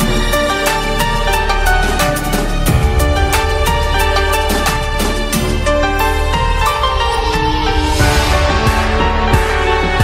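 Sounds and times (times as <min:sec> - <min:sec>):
melodic background music with bass: 0:00.0 - 0:10.0.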